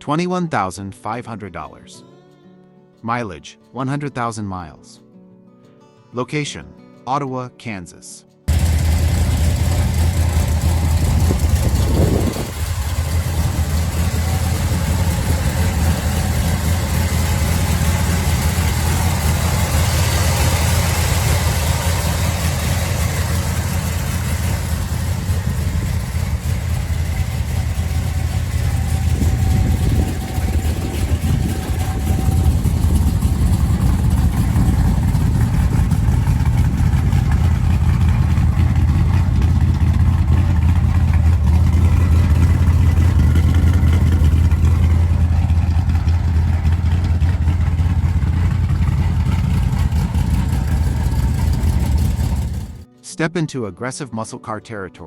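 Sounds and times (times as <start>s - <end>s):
car engine idling: 8.5s - 52.9s.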